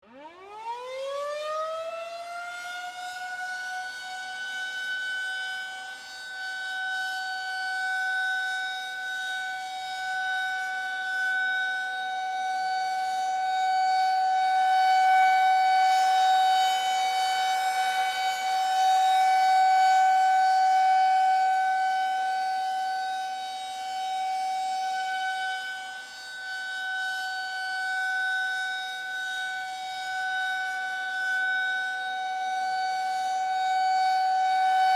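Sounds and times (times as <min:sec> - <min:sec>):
siren steady high tone: 0:00.0 - 0:34.9.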